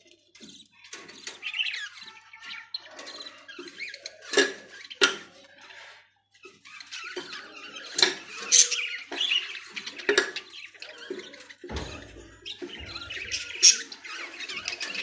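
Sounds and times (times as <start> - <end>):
budgerigars chirping and chattering: 0.0 - 15.0.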